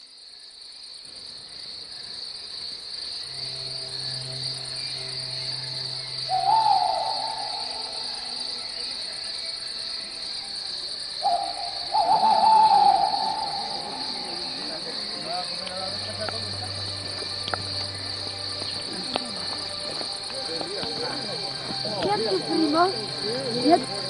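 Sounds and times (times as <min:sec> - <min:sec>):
crickets chirring: 0:00.0 - 0:24.0
hooting call: 0:03.4 - 0:24.0.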